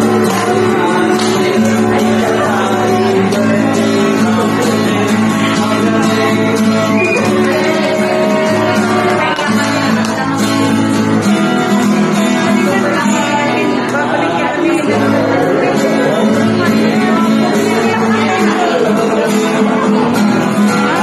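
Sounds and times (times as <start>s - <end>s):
acoustic guitar strumming: 0.0s - 21.0s
person singing: 0.0s - 21.0s.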